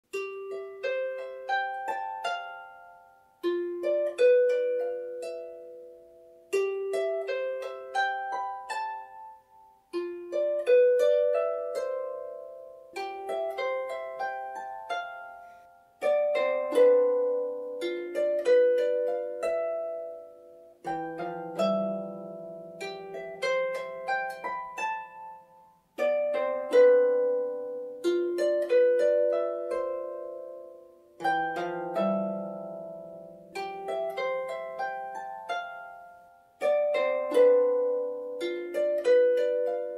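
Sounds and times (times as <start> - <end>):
harp plucked notes: 0.1 - 39.9.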